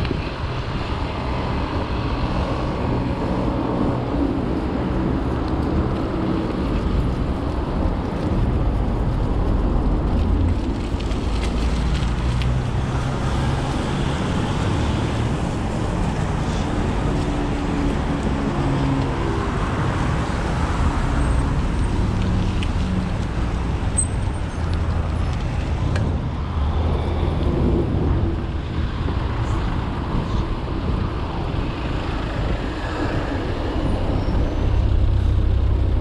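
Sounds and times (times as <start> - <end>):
road vehicle engine rumble: 0.0 - 36.0.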